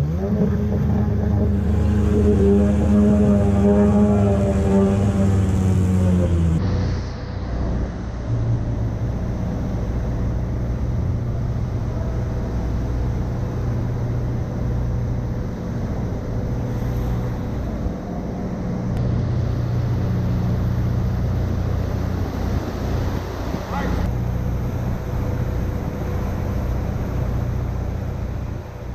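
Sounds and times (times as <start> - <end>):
outboard motors rumbling: 0.0 - 28.9.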